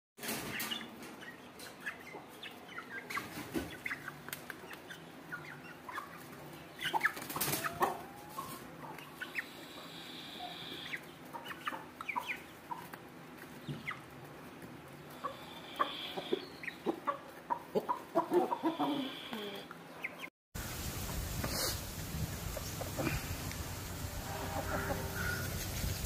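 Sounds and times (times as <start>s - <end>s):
chickens scuffling: 0.2s - 9.5s, 10.8s - 18.8s, 20.6s - 26.0s
chickens clucking: 0.2s - 20.3s, 21.1s - 26.0s.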